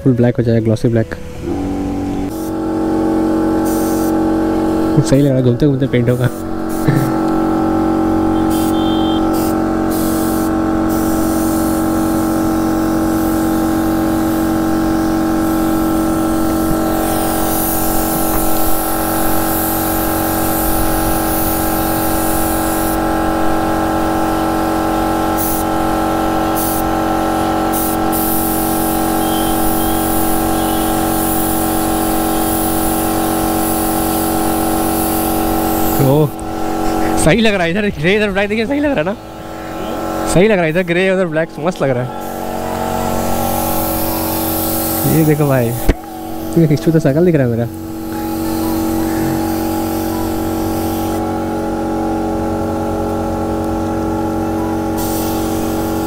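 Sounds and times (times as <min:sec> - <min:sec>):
steady hum: 0:00.2 - 0:54.5
spray gun hissing: 0:01.3 - 0:51.2, 0:55.0 - 0:56.0.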